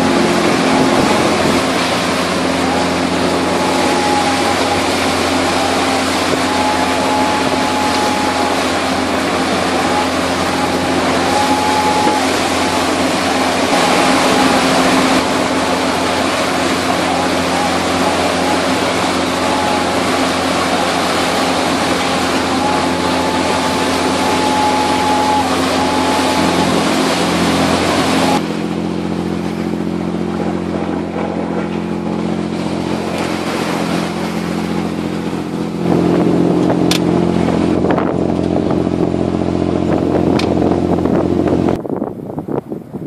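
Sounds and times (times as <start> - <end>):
diesel engine humming: 0.0 - 42.3
rushing wake water: 0.0 - 43.0
wind: 0.0 - 43.0.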